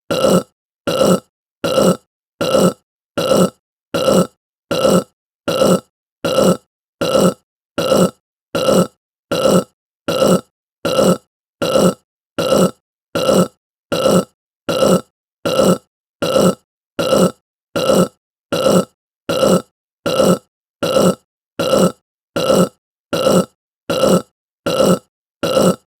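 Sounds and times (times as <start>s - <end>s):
person burping: 0.1s - 25.9s.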